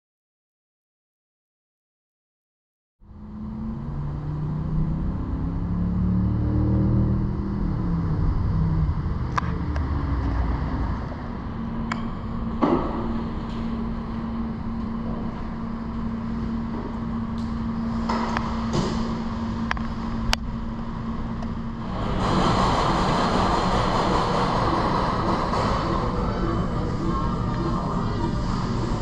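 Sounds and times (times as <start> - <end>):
vehicle engine running: 3.0 - 29.0.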